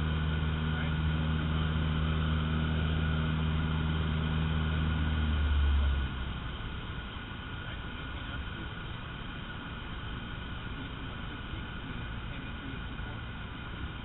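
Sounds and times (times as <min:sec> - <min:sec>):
plane engine and propeller droning: 0:00.0 - 0:14.0.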